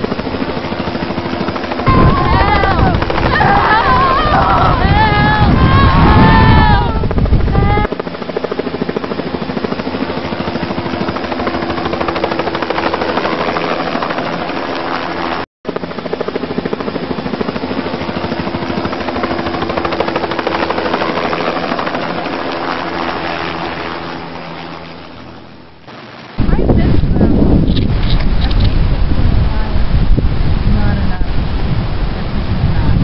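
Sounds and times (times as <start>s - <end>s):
helicopter rotors chopping: 0.0s - 29.8s.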